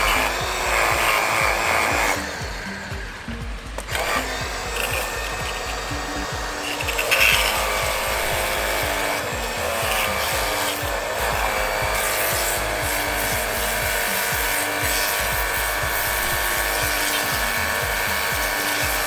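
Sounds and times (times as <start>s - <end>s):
pressure washer spraying water: 0.0s - 19.0s.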